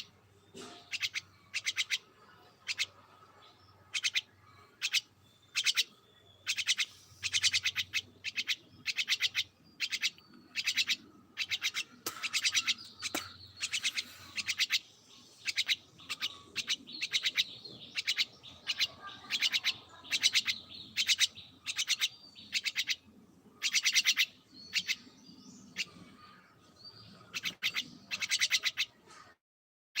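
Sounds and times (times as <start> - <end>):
small birds chirping rapidly: 0.0 - 29.4.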